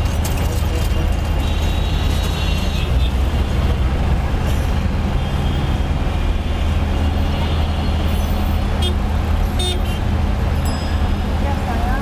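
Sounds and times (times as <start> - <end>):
traffic engine drone: 0.0 - 12.0.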